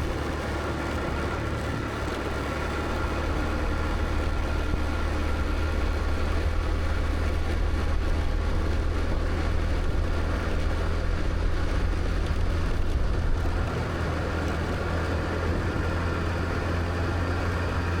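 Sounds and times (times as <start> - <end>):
road and wind noise: 0.0 - 18.0
scooter engine humming: 0.0 - 18.0.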